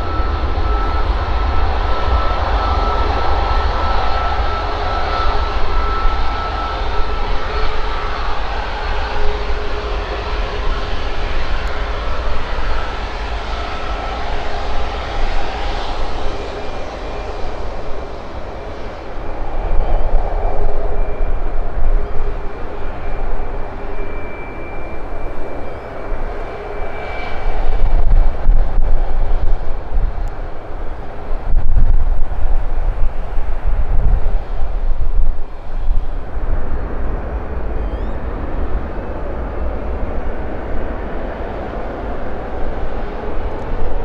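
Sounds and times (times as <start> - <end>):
jet engines rumbling and whining: 0.0 - 44.0.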